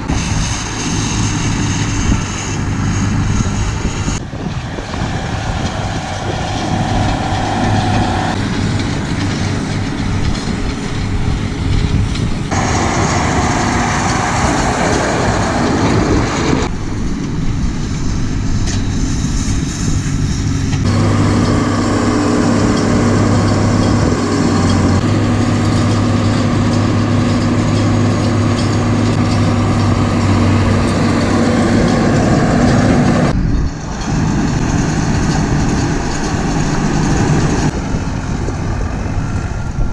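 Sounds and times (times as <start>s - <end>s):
round baler working: 0.0s - 39.9s
tractor diesel engines running: 0.0s - 39.9s.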